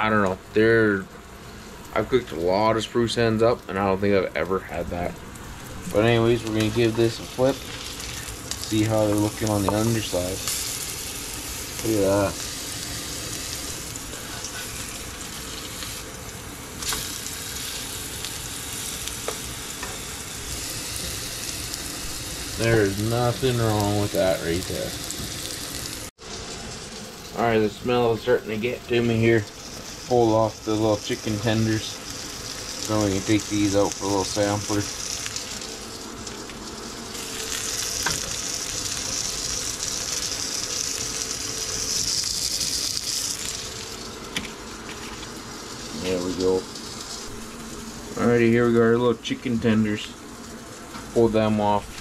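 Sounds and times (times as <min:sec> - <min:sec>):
meat sizzling in a frying pan: 0:00.6 - 0:52.0.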